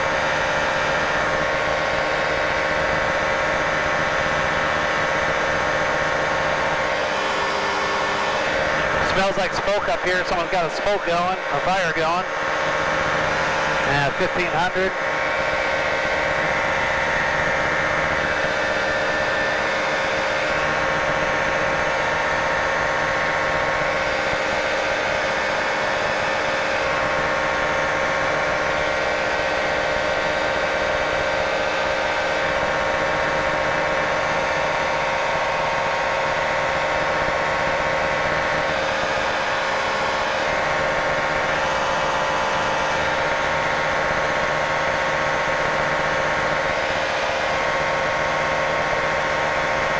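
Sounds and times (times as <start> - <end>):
propeller plane engine drone: 0.0 - 49.9.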